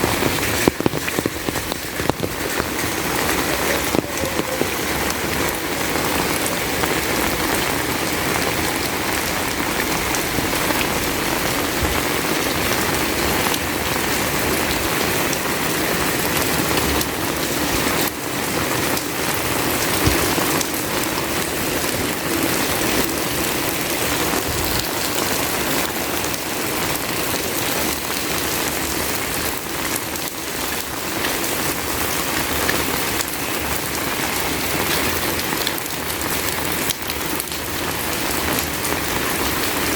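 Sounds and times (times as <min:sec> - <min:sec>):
heavy rain hissing: 0:00.0 - 0:39.9
raindrops hitting close by: 0:00.0 - 0:39.9.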